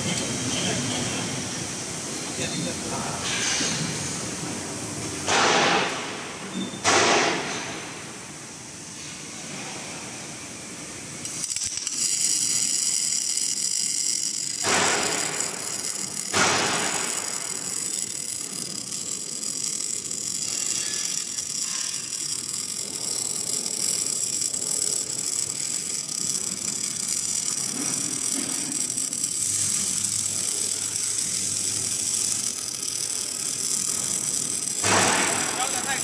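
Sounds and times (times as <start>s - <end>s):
welding arc crackling: 0.0s - 8.5s, 9.4s - 36.0s
welding hiss surges: 0.0s - 36.0s.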